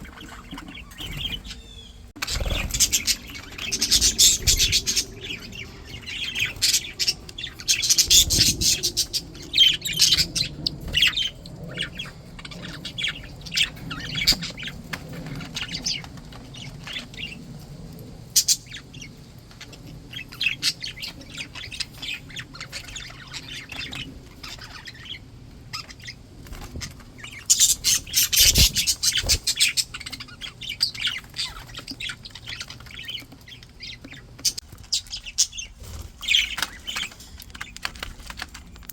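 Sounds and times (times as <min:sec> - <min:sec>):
budgerigars chirping and squawking: 0:00.0 - 0:17.5, 0:18.3 - 0:38.6.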